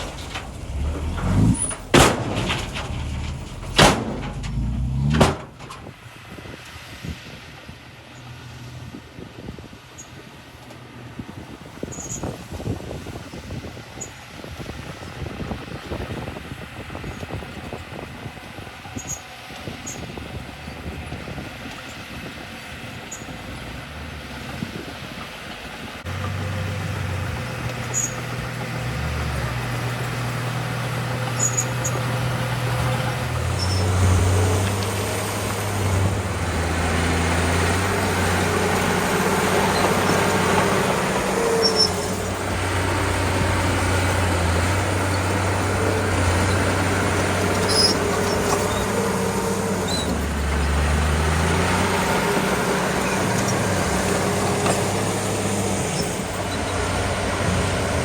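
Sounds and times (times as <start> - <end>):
bulldozer diesel engine running: 0.0 - 6.5, 10.4 - 58.0.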